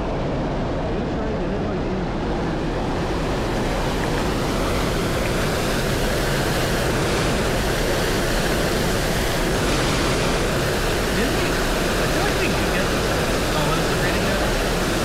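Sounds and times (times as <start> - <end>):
waterfall rushing: 2.0 - 15.0.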